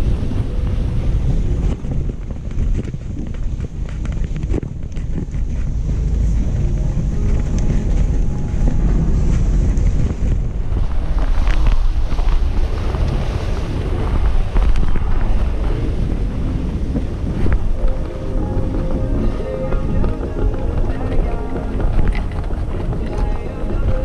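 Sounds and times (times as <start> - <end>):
vehicle rumbling on dirt road: 0.0 - 24.0
wind buffeting microphone: 0.0 - 24.0.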